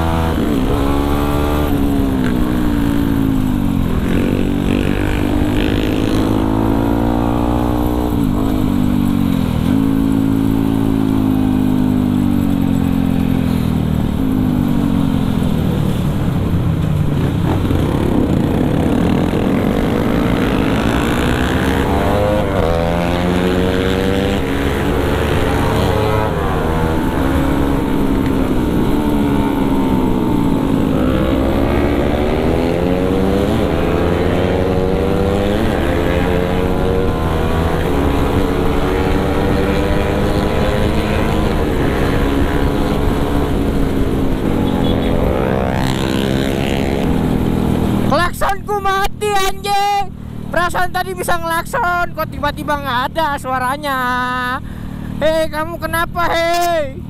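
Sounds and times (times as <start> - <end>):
motorcycle engine accelerating: 0.0 - 48.4
wind noise: 0.0 - 48.8.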